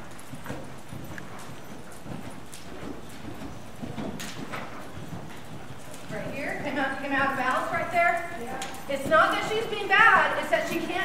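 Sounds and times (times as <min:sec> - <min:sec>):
horse hoofbeats on dirt: 0:00.0 - 0:11.0.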